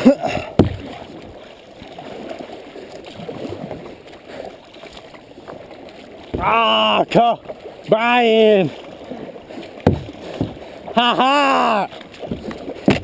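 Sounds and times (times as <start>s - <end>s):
water sloshing around kayak: 0.0s - 13.0s.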